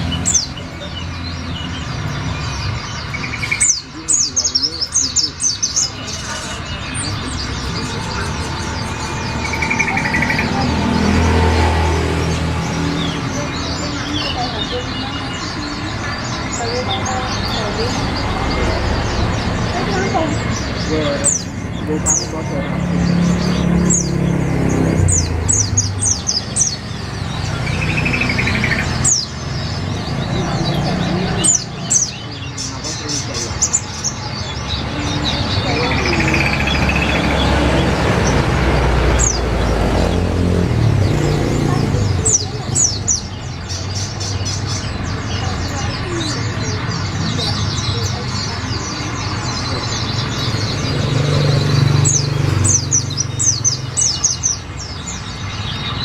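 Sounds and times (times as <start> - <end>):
bird chirping and trilling: 0.0 - 56.0.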